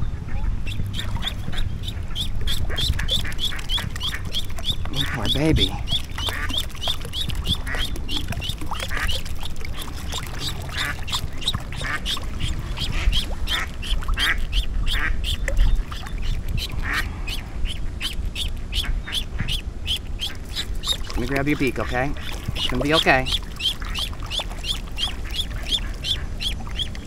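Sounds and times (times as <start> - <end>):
low rush of water: 0.0 - 27.0
duckling peeping in distress: 0.2 - 27.0.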